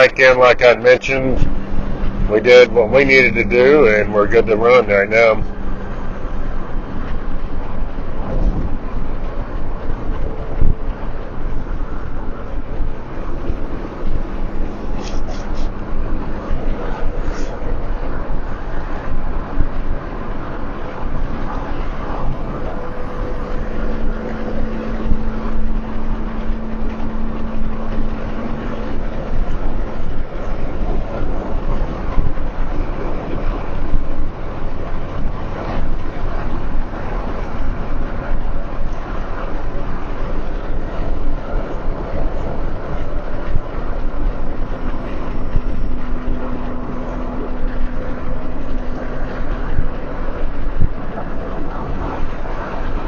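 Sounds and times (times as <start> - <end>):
car road and engine noise: 0.0 - 53.0
faint steady hum: 0.0 - 53.0.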